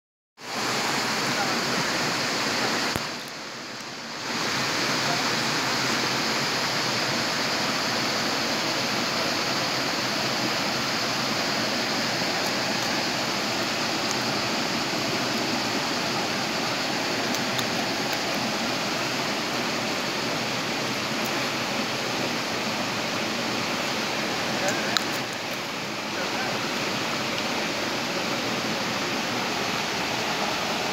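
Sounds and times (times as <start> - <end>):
stream rushing over rocks: 0.4 - 30.9.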